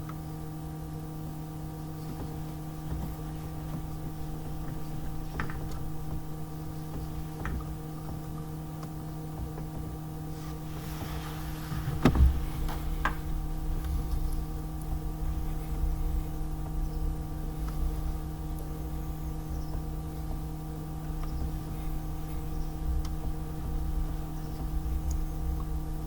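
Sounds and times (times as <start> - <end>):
mechanical hum: 0.0 - 26.0
low rumble: 1.0 - 26.0.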